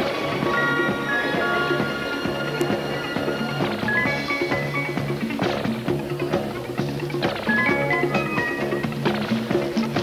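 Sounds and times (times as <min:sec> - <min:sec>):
upbeat music with bass and drums: 0:00.0 - 0:10.0.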